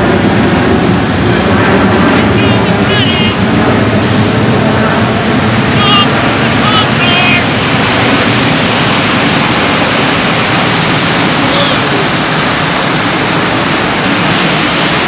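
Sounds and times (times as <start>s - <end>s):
heavy ocean surf breaking: 0.0s - 15.0s.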